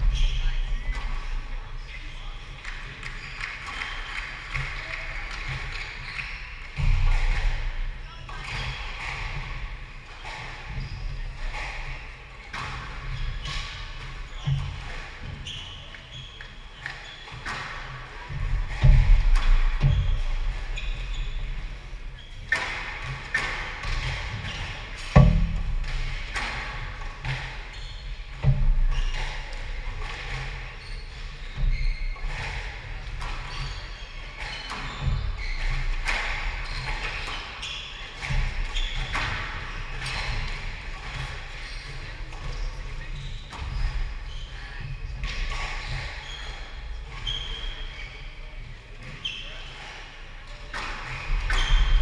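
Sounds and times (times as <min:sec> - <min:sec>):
shoes squeaking on wooden floor: 0:00.0 - 0:52.0.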